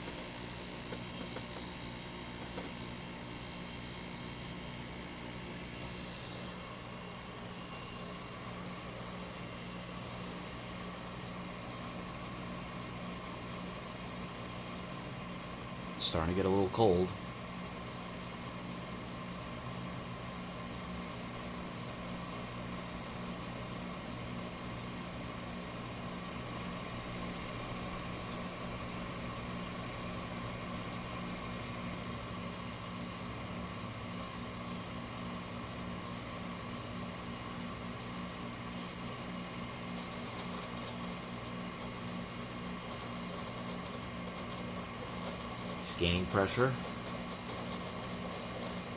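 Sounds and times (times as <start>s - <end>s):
air conditioner compressor humming: 0.0s - 48.9s
air conditioner fan blowing: 0.0s - 48.9s.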